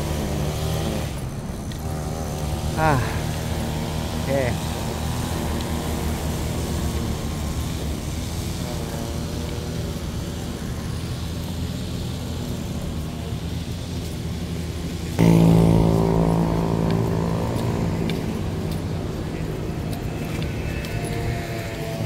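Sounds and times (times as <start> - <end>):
low traffic rumble: 0.0 - 22.0
vehicle engine drone: 0.0 - 22.0.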